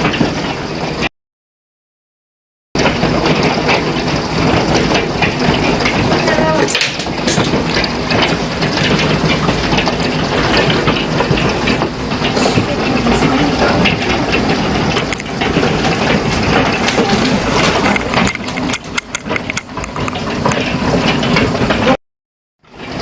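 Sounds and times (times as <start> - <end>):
heavy rain pelting: 0.0 - 1.1, 2.8 - 22.0, 22.7 - 23.0
low rumble: 2.8 - 22.0.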